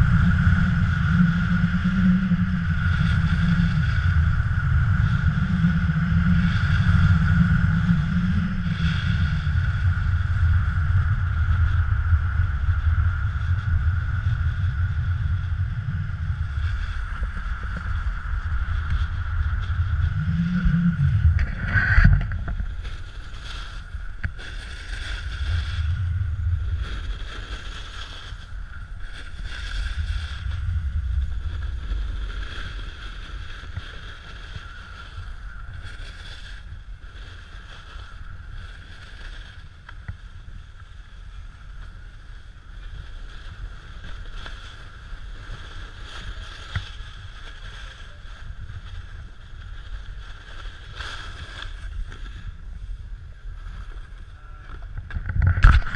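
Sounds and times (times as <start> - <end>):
snowboard scraping on snow: 0.0 - 54.3
wind on microphone: 0.0 - 55.9.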